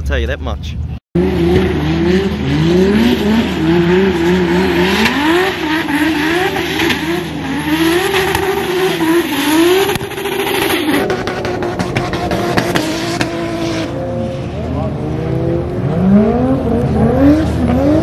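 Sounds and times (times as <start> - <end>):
car engines revving: 1.2 - 18.0.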